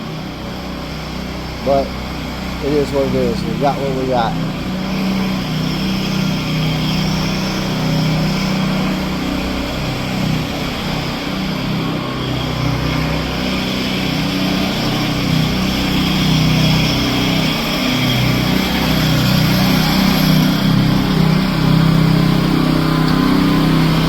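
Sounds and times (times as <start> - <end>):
concrete saw engine running: 0.0 - 24.0.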